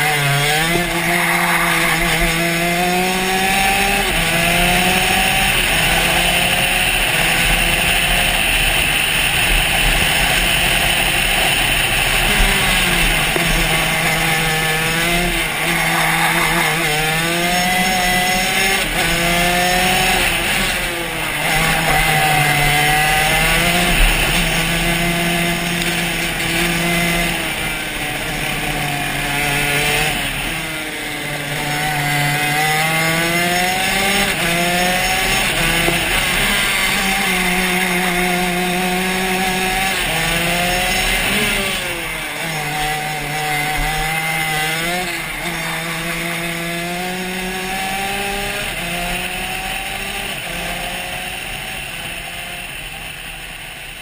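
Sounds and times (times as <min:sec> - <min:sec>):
kart engine accelerating: 0:00.0 - 0:54.0.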